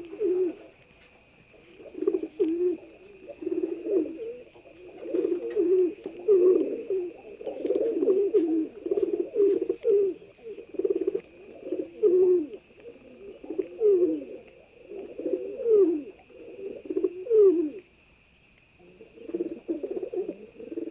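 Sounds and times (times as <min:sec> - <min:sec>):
pigeons cooing: 0:00.0 - 0:18.0, 0:18.7 - 0:20.9
faint steady high tone: 0:00.0 - 0:20.9.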